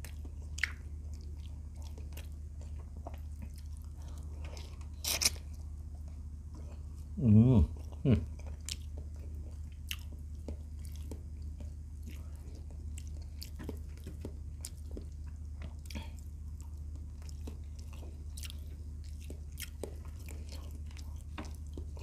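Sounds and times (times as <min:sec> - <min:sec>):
chewing and mouth smacks: 0:00.0 - 0:07.2, 0:07.8 - 0:22.0
steady low hum: 0:00.0 - 0:22.0.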